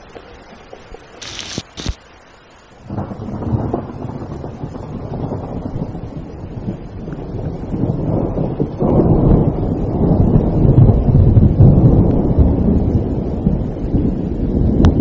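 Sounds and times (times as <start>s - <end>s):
steady rain: 0.0s - 15.0s
thunder rumbling: 2.8s - 15.0s.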